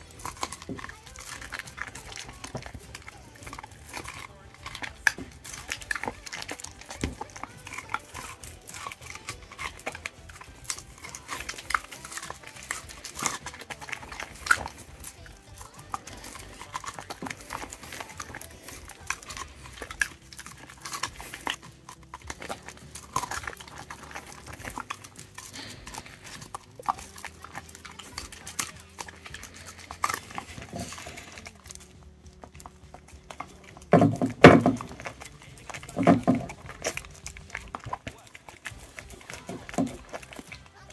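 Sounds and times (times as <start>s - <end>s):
dog chewing corn cob crunching: 0.0s - 40.9s
dog licking: 0.0s - 40.9s.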